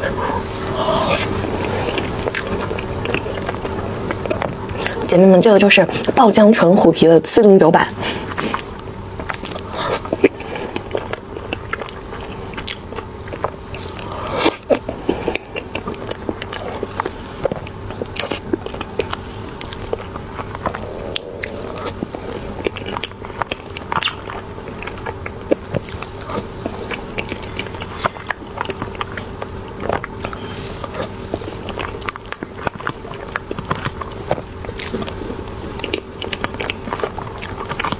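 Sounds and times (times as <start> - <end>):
person chewing: 0.0 - 5.1, 8.0 - 37.9.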